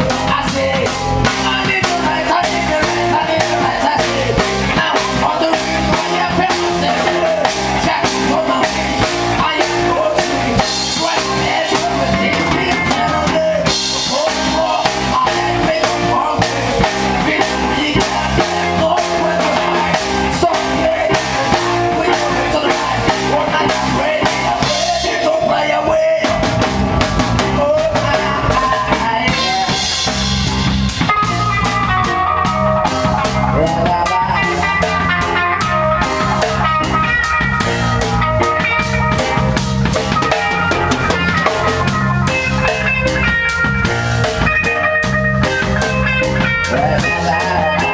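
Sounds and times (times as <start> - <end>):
live band playing: 0.0 - 47.9.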